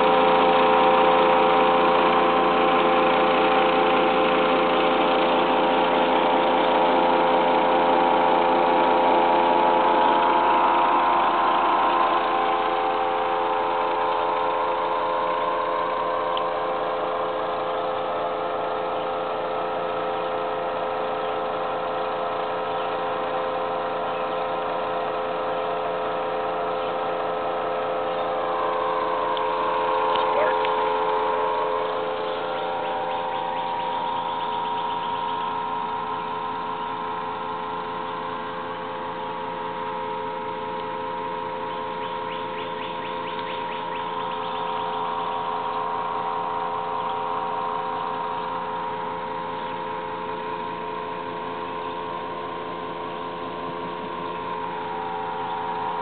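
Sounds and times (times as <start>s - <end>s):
air conditioner hum with fan: 0.0s - 56.0s.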